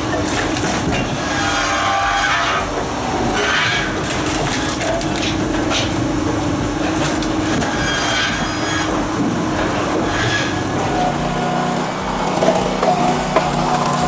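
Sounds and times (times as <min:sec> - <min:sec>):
firewood processor humming: 0:00.0 - 0:14.0.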